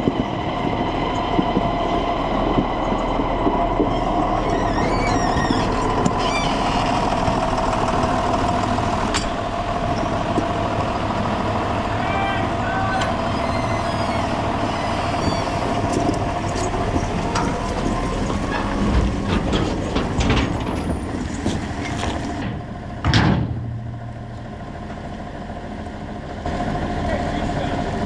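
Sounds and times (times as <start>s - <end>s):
clanks and knocks: 0.0s - 11.0s, 13.0s - 24.5s
farm machine engine running: 0.0s - 28.0s.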